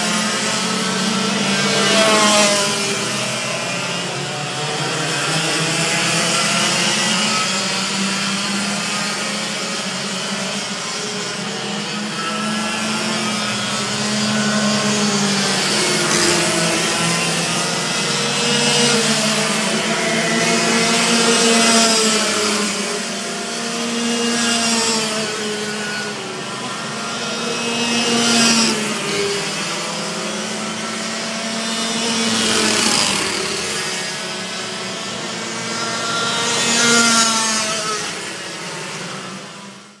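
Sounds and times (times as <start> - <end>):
racing kart engines buzzing: 0.0 - 40.0.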